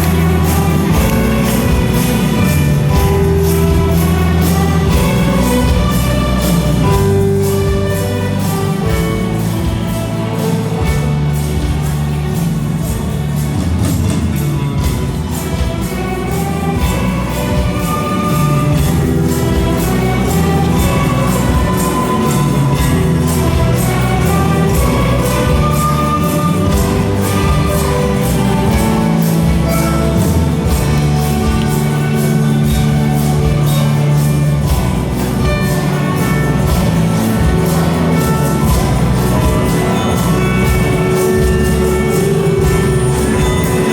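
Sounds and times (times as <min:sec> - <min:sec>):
orchestra playing: 0:00.0 - 0:43.9
percussion beat: 0:00.0 - 0:43.9.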